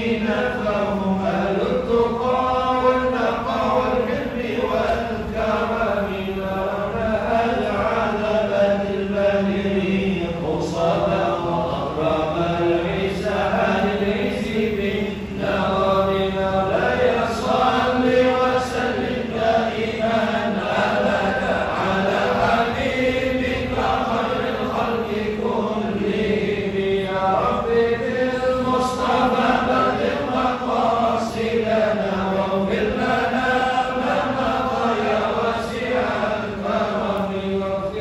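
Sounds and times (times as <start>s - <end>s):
congregation chanting: 0.0s - 38.0s.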